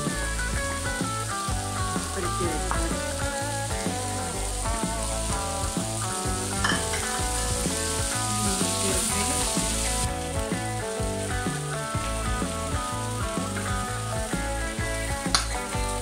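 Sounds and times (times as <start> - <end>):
background music with bass line: 0.0 - 16.0
vegetables sizzling in a wok: 0.0 - 16.0.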